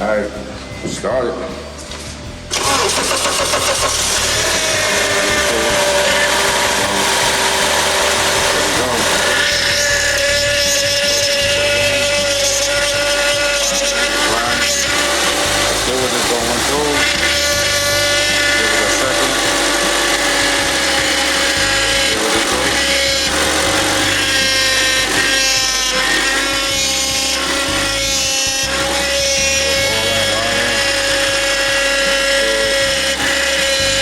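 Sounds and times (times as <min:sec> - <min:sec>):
car engine running: 0:00.0 - 0:34.0
power steering pump whining: 0:00.0 - 0:34.0.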